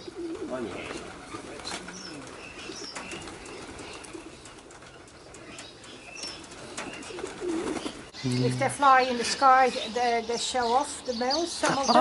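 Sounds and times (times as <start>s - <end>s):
doves cooing: 0.0s - 12.0s
small birds chirping: 0.0s - 12.0s.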